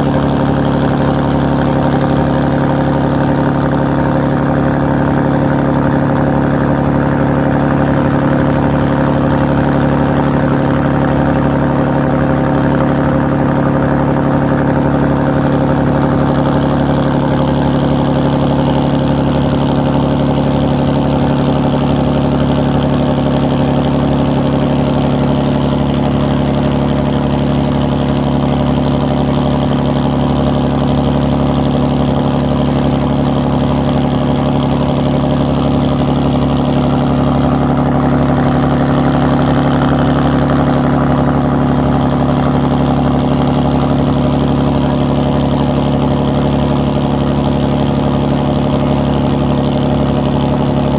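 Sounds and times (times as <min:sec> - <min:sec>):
ferry engine drone: 0:00.0 - 0:50.9.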